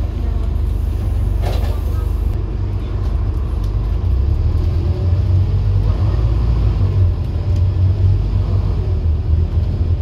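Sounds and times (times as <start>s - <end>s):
bus engine drone: 0.0s - 10.0s
road rumble: 0.0s - 10.0s.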